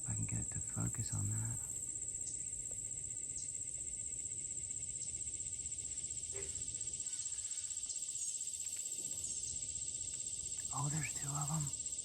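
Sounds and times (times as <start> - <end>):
insect chorus pulsing buzz: 0.0 - 12.0.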